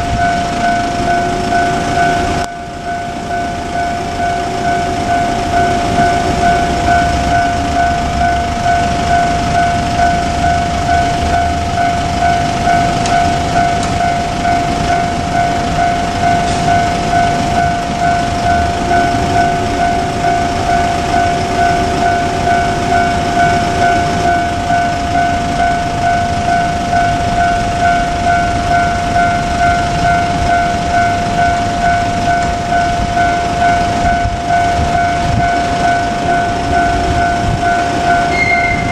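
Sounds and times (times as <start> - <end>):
diesel railcar engines rumbling: 0.0 - 38.9
level crossing warning bell: 0.0 - 38.9.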